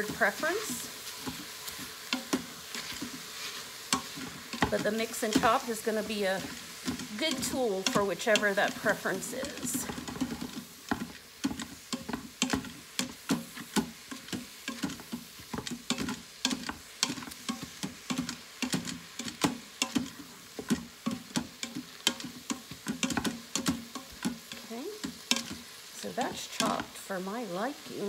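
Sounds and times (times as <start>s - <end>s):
meat sizzling: 0.0s - 28.0s.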